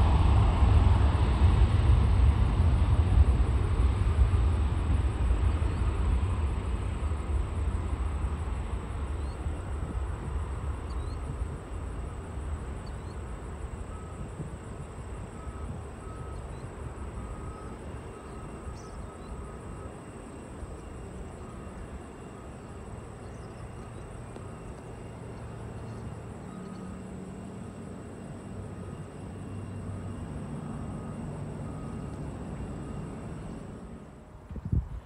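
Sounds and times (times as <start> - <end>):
distant jet airliner taking off: 0.0 - 35.0.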